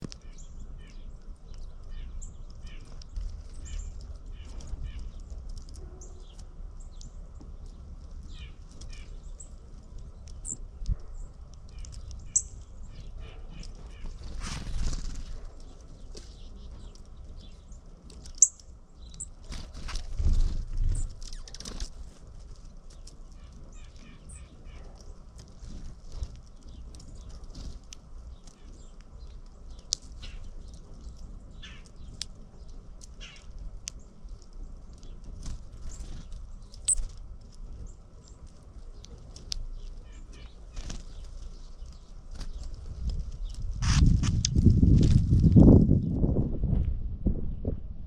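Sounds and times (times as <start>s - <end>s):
small birds chirping: 0.0s - 46.2s
low steady rumble: 0.0s - 48.0s.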